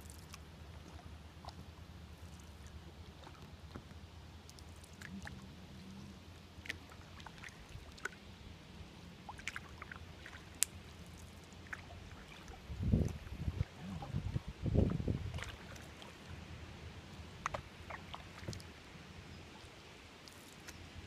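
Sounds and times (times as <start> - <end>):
steady low rumble: 0.0 - 17.9
water drips and small splashes: 0.0 - 21.0.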